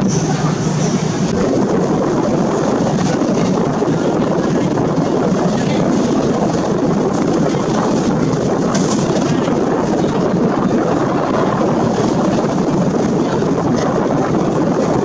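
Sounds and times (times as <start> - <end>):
ferry engine rumble: 0.0 - 15.0.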